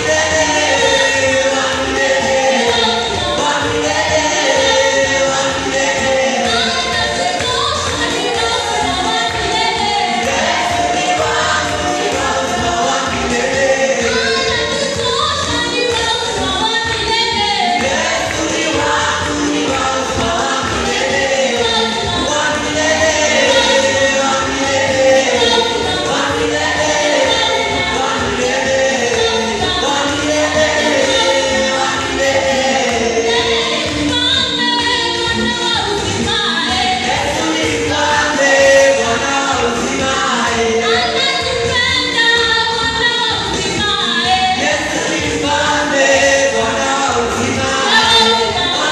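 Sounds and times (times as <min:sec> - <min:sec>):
steady beat: 0:00.0 - 0:41.7
choir singing gospel song: 0:00.0 - 0:48.9.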